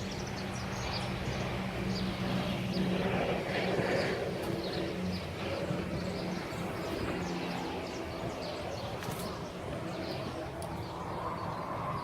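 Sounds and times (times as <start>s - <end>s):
distant traffic rumble: 0.0s - 12.0s
small birds chirping: 0.0s - 12.0s.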